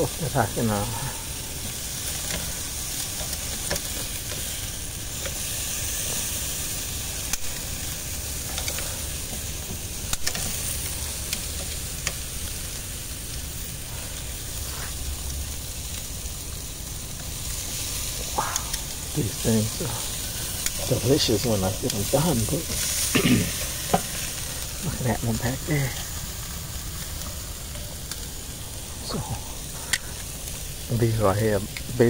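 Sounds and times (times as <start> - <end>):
meat sizzling on a grill: 0.0 - 32.0.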